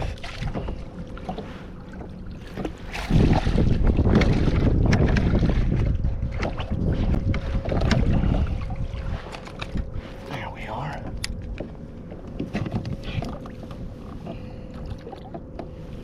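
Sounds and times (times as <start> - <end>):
faint steady hum: 0.0 - 16.0
wind rumbling on microphone: 0.0 - 16.0.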